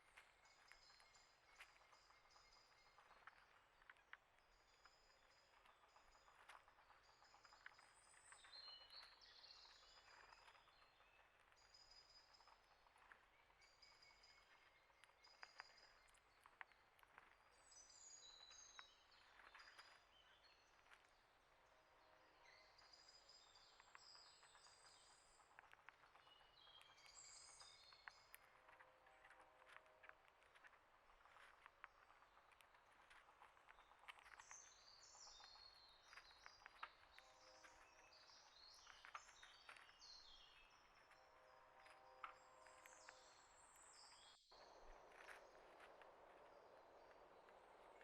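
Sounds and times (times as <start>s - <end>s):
small songbirds chirping: 0.0s - 48.0s.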